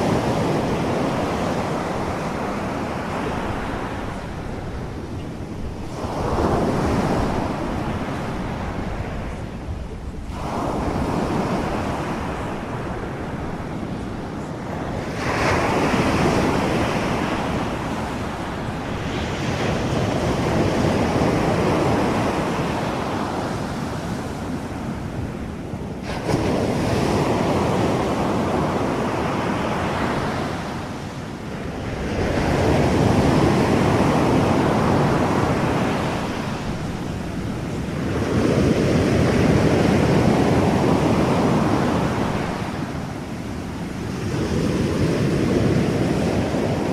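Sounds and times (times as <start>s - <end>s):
ocean waves washing in: 0.0s - 46.9s.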